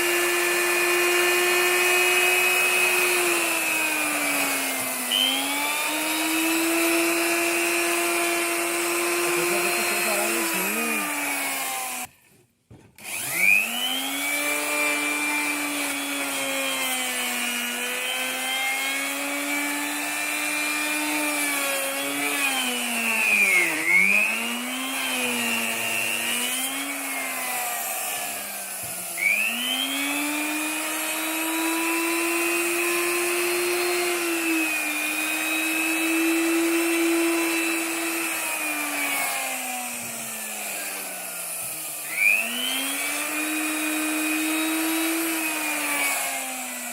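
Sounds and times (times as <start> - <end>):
wood router whining: 0.0 - 46.9.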